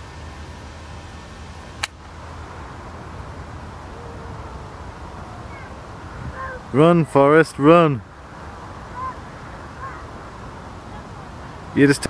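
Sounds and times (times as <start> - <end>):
wind buffeting microphone: 2.1 - 12.0.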